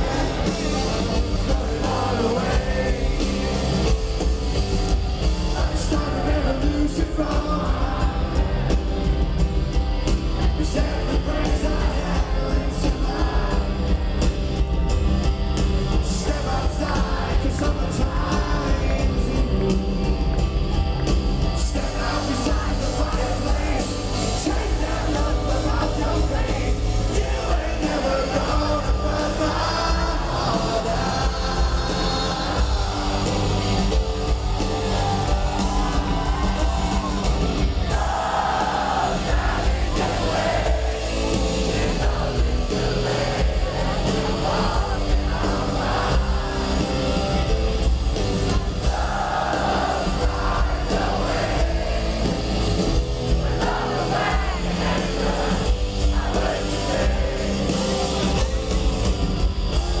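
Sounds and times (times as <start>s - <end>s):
crowd voices and yells: 0.0s - 60.0s
live rock band with singing: 0.0s - 60.0s.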